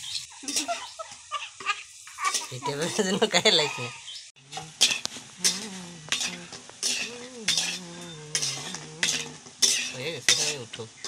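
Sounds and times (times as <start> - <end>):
metal spatula scraping a wok: 0.0 - 3.2, 4.4 - 11.0
oil sizzling: 0.0 - 11.0.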